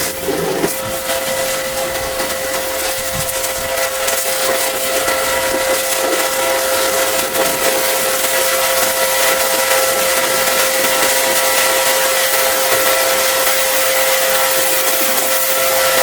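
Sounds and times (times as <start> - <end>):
pressure washer motor whine: 0.0 - 16.0
water jet hissing: 0.0 - 16.0.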